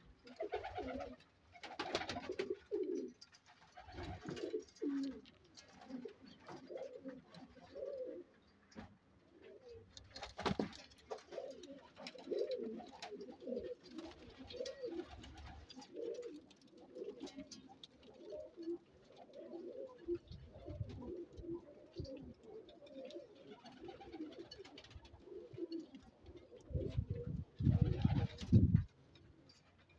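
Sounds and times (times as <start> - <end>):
pigeons cooing: 0.0 - 8.4, 9.2 - 29.6.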